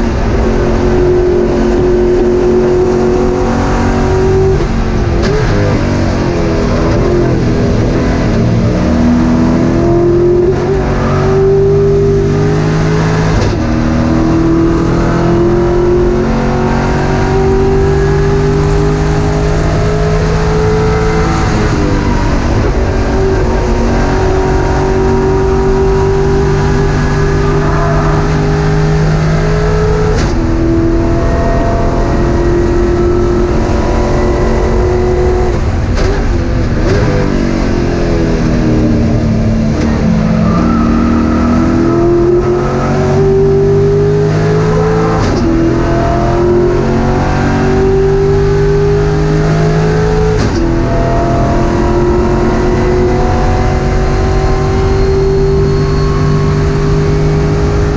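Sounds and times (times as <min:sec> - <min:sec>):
race car engine at high revs: 0:00.0 - 0:57.9.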